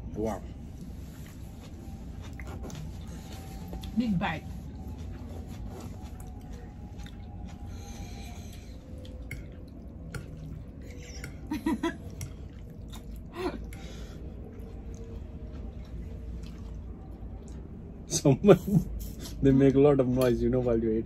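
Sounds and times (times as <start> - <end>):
chewing and wet mouth noises: 0.6 - 20.4.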